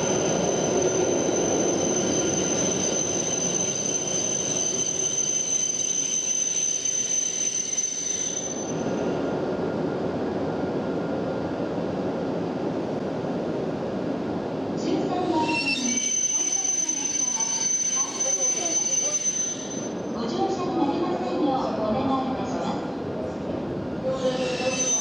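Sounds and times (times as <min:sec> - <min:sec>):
high train whine: 0:00.0 - 0:25.0.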